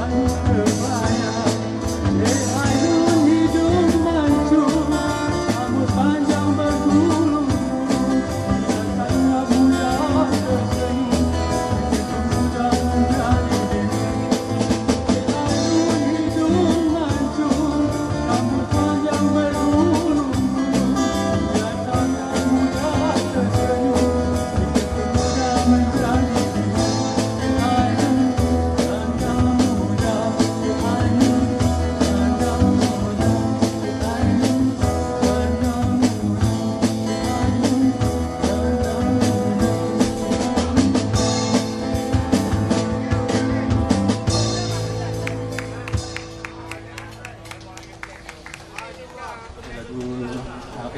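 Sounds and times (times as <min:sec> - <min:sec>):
man singing: 0:00.0 - 0:45.9
drum kit beat: 0:00.0 - 0:46.9
strummed acoustic-electric guitar: 0:00.0 - 0:47.4.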